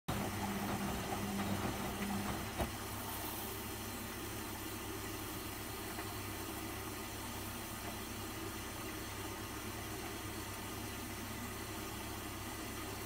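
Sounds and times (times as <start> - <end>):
steady hum: 0.1 - 13.0
washing machine running: 0.1 - 13.0.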